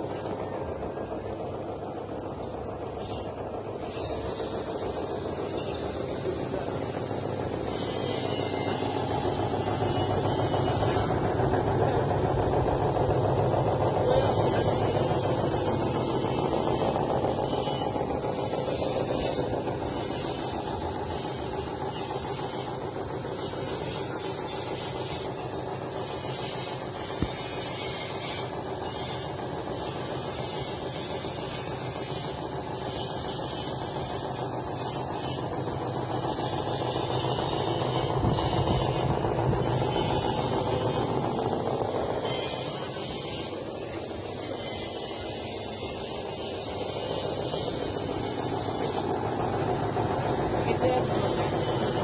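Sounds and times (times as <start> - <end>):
feather plucking machine running: 0.0 - 52.0.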